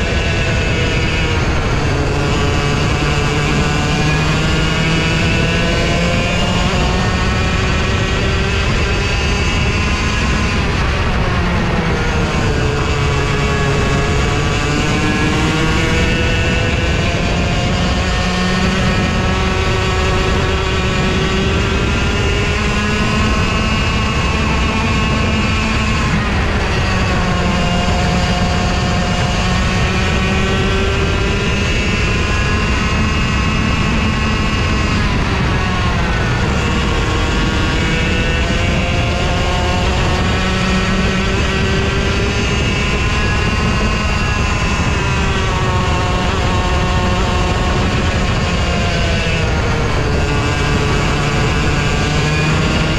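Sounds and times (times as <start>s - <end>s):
kart engine: 0.0s - 52.9s.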